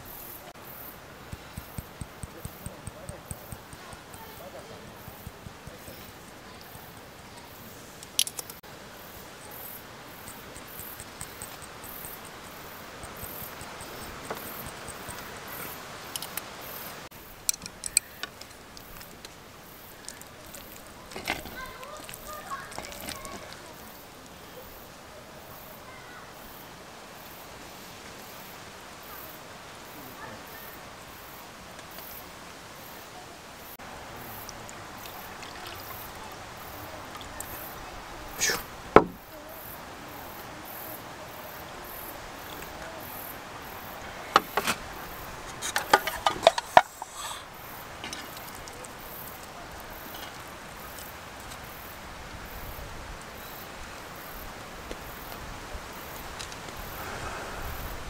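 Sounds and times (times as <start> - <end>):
insects chirping: 0.0 - 58.0
steady outdoor hiss: 0.0 - 58.0.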